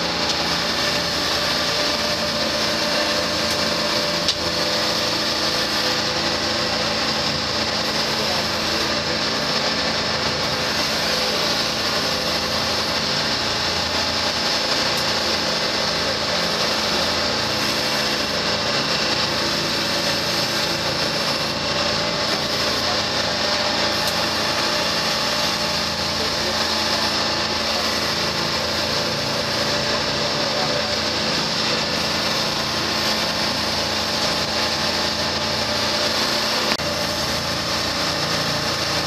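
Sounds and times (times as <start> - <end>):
diesel engines running steadily: 0.0 - 39.0.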